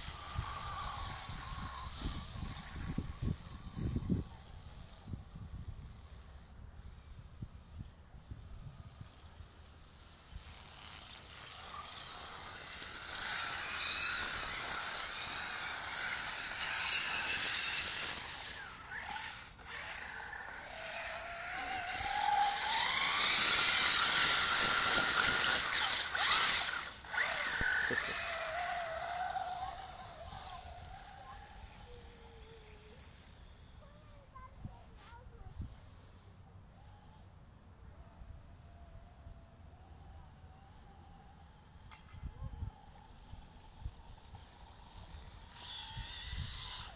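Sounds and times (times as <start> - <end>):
toy truck motor whining: 0.0 - 46.9.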